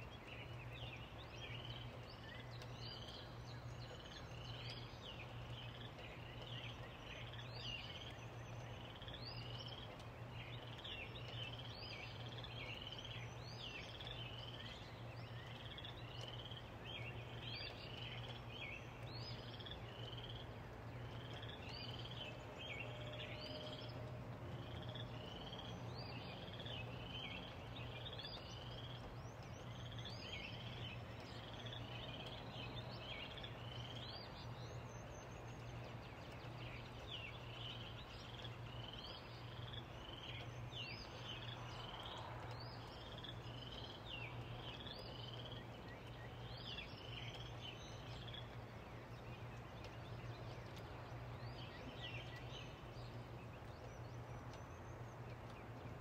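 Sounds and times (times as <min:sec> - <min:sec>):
soft steady rain: 0:00.0 - 0:56.0.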